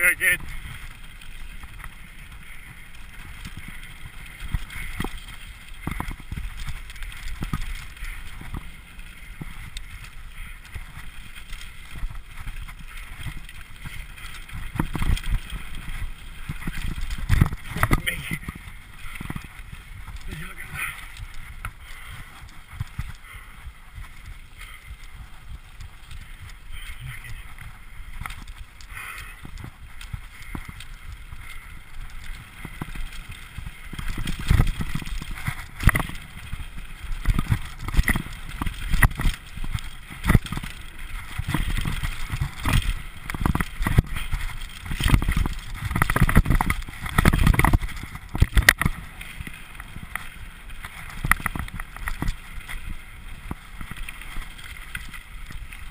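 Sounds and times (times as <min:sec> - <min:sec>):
bike tyres rushing on dirt: 0:00.0 - 0:55.9
bike thumping and rattling: 0:00.4 - 0:23.2, 0:27.3 - 0:55.9.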